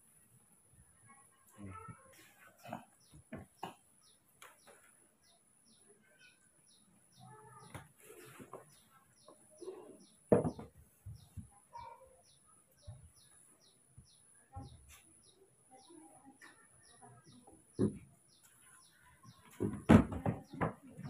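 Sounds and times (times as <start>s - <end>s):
small bird chirping: 1.1s - 21.0s.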